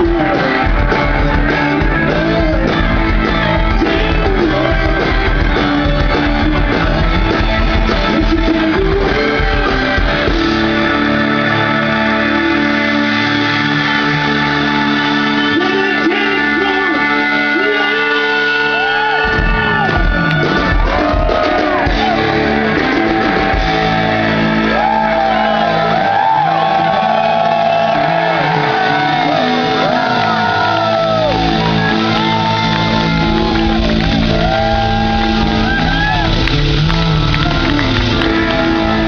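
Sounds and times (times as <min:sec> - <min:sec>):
electric guitar bending notes: 0:00.0 - 0:39.0
live blues-rock band playing: 0:00.0 - 0:39.0.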